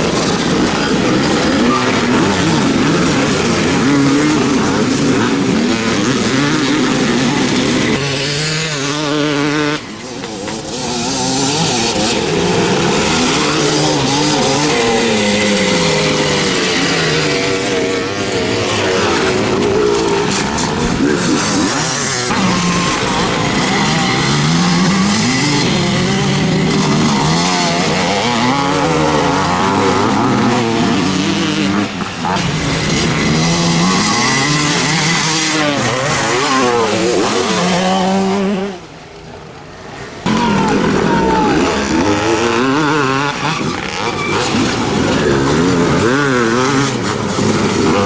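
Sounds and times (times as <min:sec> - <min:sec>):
motocross motorcycles racing: 0:00.0 - 0:48.0.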